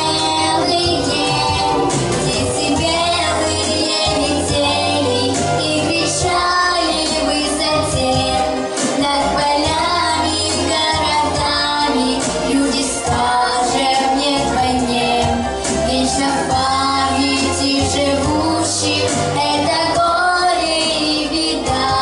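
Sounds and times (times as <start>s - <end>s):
girl singing: 0.0s - 15.3s, 15.9s - 22.0s
musical accompaniment with bass: 0.0s - 22.0s.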